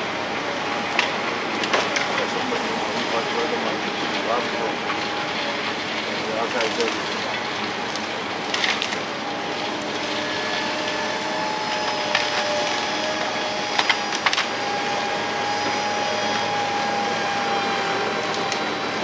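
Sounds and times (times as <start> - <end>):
heavy machinery running: 0.0 - 19.0
wood splintering cracks: 0.9 - 18.7.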